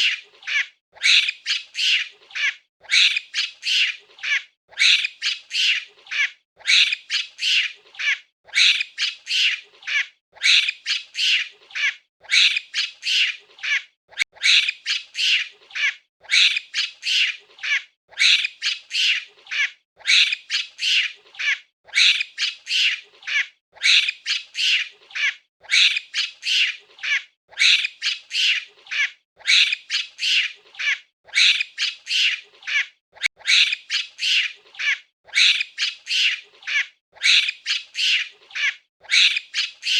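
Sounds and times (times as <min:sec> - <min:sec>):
monkey chattering calls: 0:00.0 - 0:39.9.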